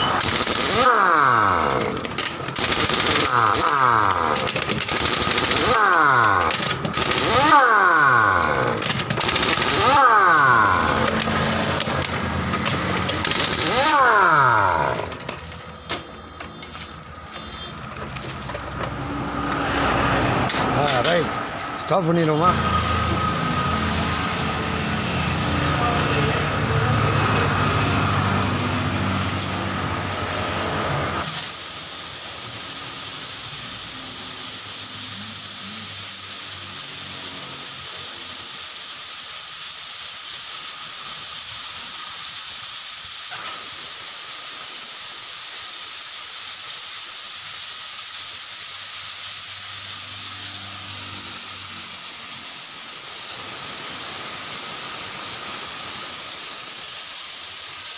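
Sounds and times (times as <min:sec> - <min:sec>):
air hissing from tyre valve: 0:00.0 - 0:21.7, 0:26.4 - 0:57.9.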